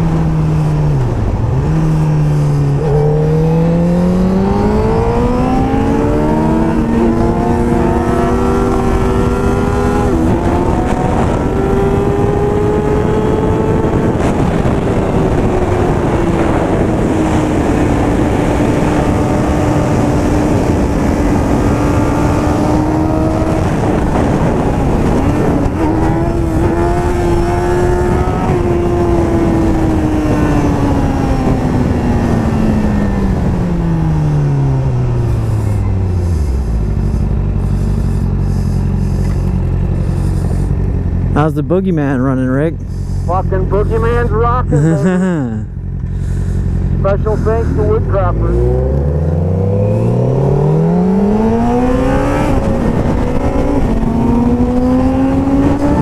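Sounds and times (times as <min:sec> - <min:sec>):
motorcycle engine revving: 0:00.0 - 0:43.3, 0:43.9 - 0:56.0
wind rush: 0:01.0 - 0:41.4, 0:46.1 - 0:56.0.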